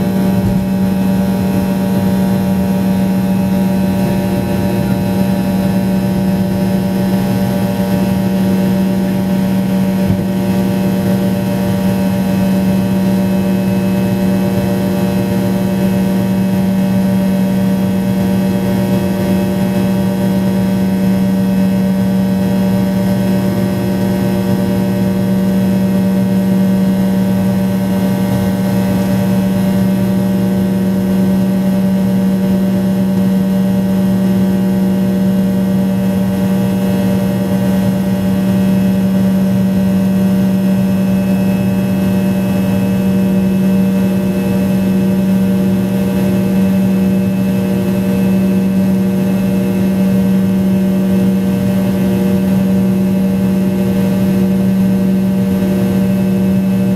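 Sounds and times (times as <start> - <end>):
jet engine drone in cabin: 0.0 - 56.9.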